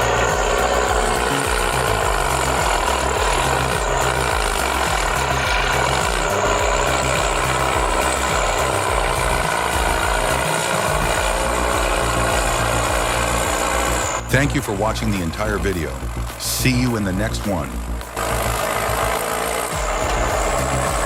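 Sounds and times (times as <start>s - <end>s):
heavy machinery engine running: 0.0s - 21.0s.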